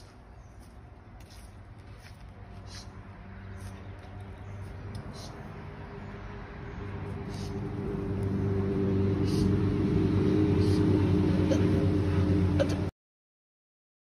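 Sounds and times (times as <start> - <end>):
low droning hum: 0.1 - 12.9.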